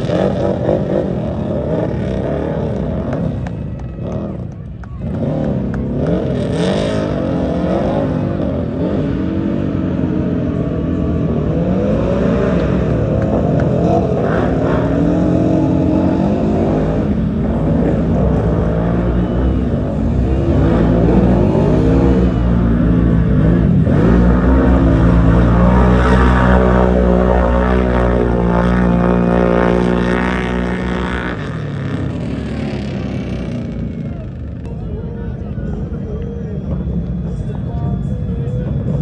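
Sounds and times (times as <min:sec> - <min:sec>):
race vehicle engine revving: 0:00.0 - 0:34.7.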